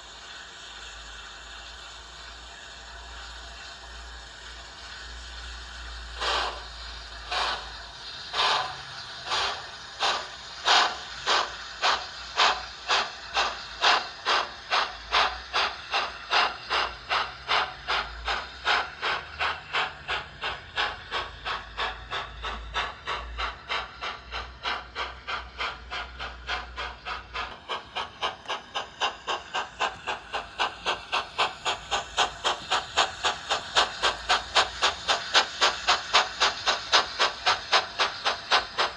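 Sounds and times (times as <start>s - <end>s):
hissing steam: 0.0s - 38.9s
steam locomotive chuffs: 0.0s - 38.9s.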